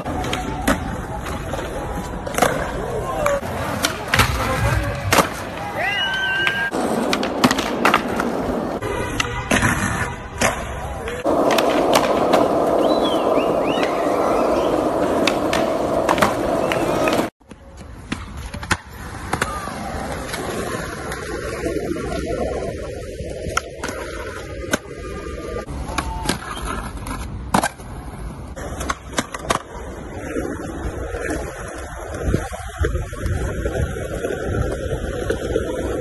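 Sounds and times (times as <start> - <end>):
skateboard clacks: 0.0 - 36.0
skateboard wheels rolling on concrete: 0.0 - 36.0.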